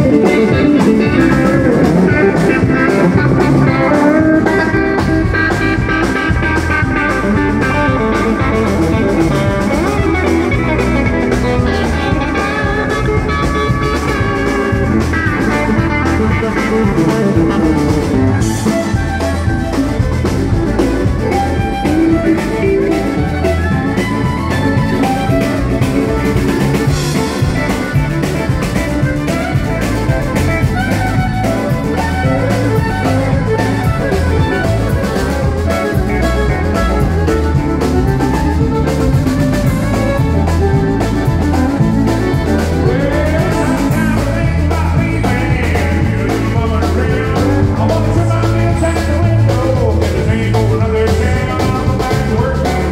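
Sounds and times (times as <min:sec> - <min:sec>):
drum kit: 0:00.0 - 0:52.9
electric guitars: 0:00.0 - 0:52.9
fiddle: 0:00.0 - 0:52.9
keyboard: 0:00.0 - 0:52.9.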